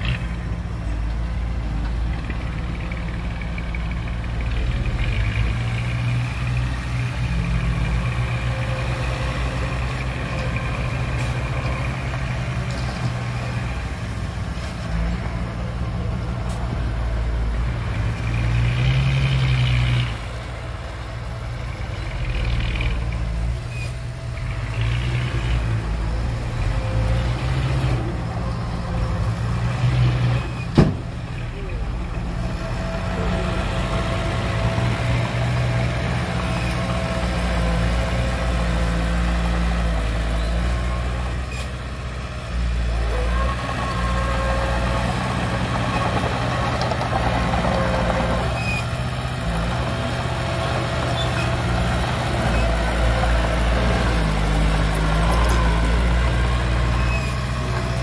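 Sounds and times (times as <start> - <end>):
heavy diesel engines working: 0.0 - 58.0.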